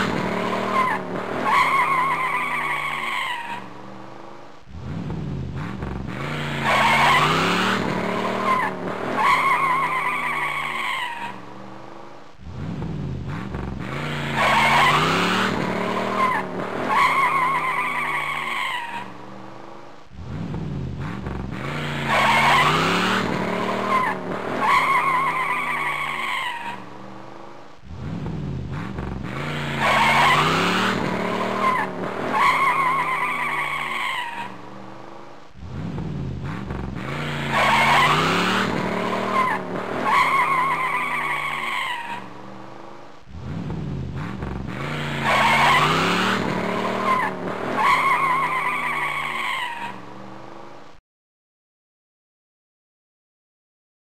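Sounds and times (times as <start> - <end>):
car tyres squealing: 0.0 - 50.7
car engine revving: 0.0 - 51.0.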